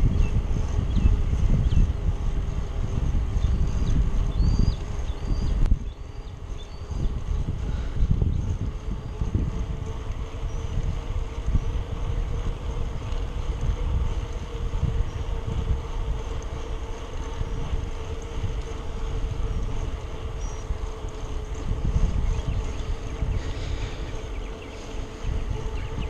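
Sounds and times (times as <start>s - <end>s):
faint hum: 0.0s - 26.0s
wind buffeting microphone: 0.0s - 26.0s.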